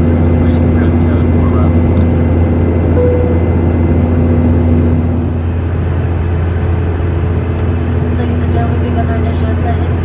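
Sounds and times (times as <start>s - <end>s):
airliner cabin drone: 0.0s - 10.0s
steady low hum: 0.0s - 10.0s.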